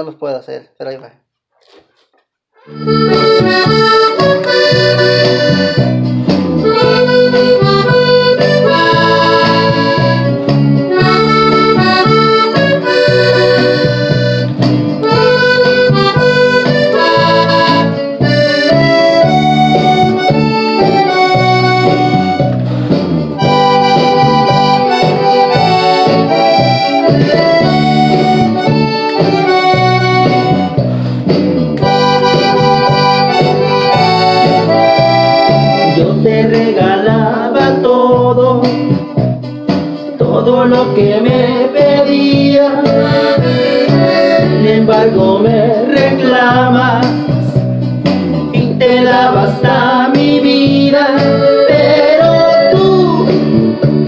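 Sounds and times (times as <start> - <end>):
bass and chord accompaniment: 2.6 - 54.0
button accordion melody: 2.6 - 54.0.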